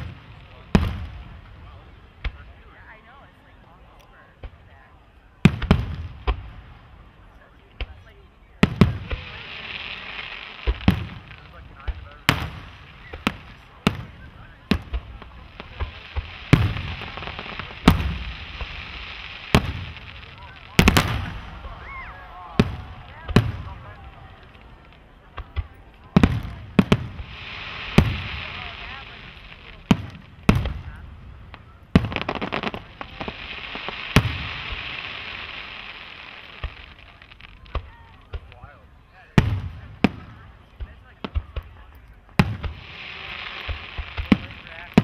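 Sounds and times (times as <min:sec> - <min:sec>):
fireworks bangs: 0:00.0 - 0:03.0, 0:04.4 - 0:07.0, 0:07.6 - 0:45.0
crackling hiss: 0:00.0 - 0:45.0.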